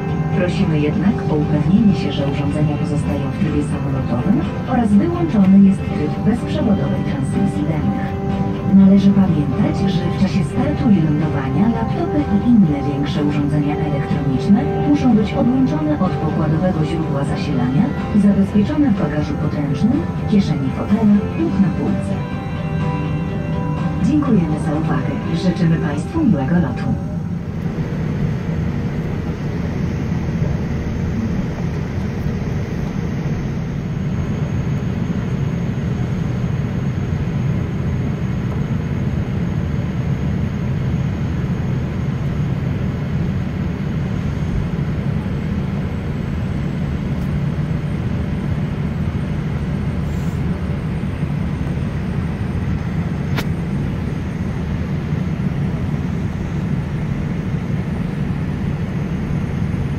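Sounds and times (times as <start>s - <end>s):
jet engine rumble inside cabin: 0.0s - 59.9s.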